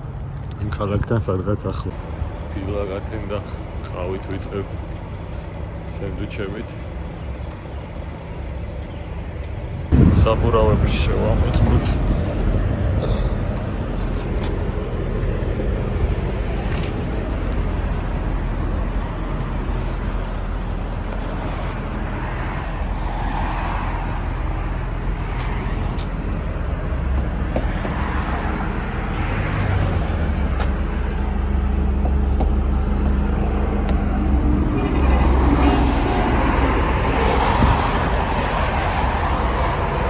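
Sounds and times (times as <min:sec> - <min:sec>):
low vehicle rumble: 0:00.0 - 0:40.0
traffic passing: 0:00.0 - 0:40.0.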